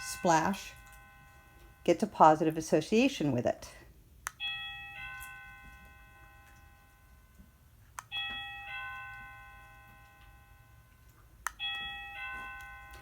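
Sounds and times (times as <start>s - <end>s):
two-note doorbell chime: 0.0s - 2.1s, 4.4s - 13.0s.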